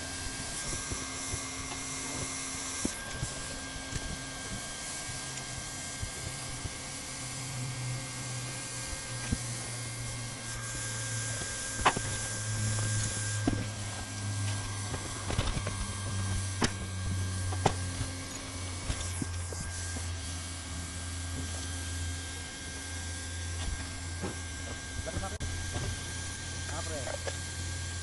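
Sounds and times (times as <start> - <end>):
heat gun blowing with motor whine: 0.0 - 28.0.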